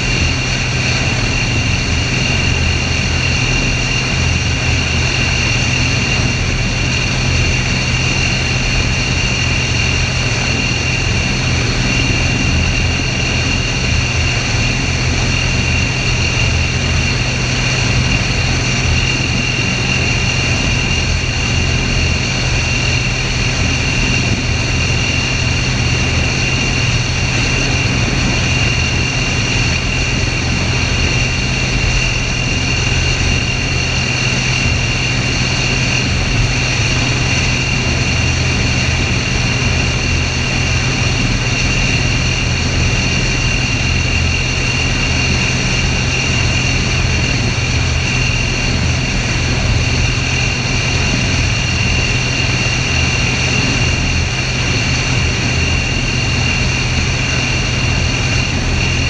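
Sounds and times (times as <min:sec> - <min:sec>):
helicopter engine and rotor drone: 0:00.0 - 0:59.0
high whine: 0:00.0 - 0:59.0.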